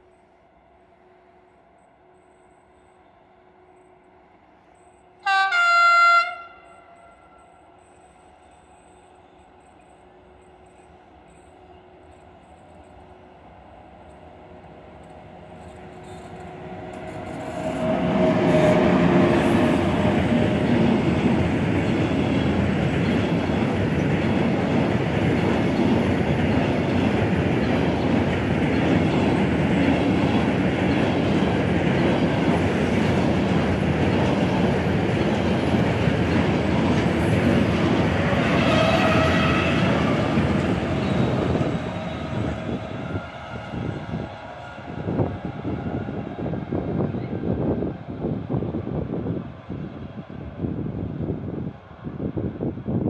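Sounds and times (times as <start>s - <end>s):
train wheels rumbling on rail: 6.3s - 53.0s.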